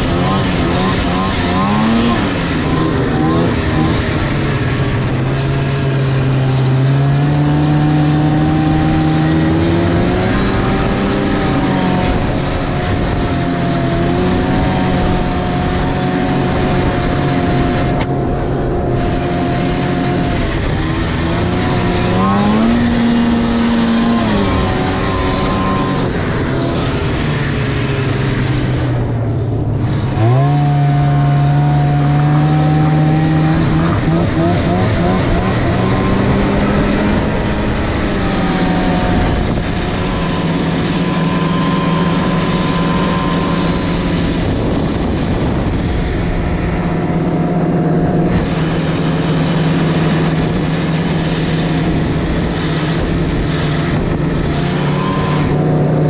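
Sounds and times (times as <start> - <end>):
snowmobile engine revving: 0.0 - 56.0
steady rushing noise: 0.0 - 56.0.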